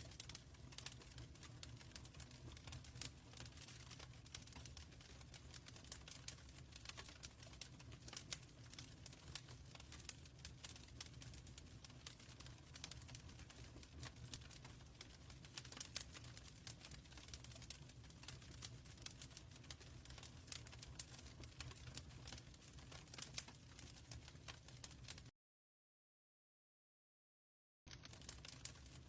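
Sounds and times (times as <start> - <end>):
low rumble of burning: 0.0 - 25.3, 27.9 - 29.0
wood fire crackling and popping: 0.0 - 25.3, 27.9 - 29.0.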